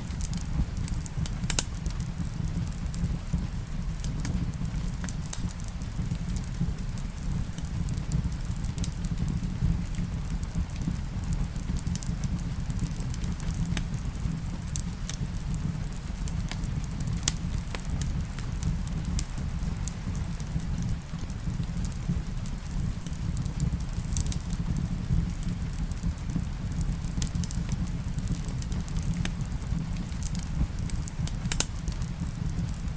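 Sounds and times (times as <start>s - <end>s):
rain falling: 0.0s - 32.9s
wood fire crackling: 0.0s - 32.9s.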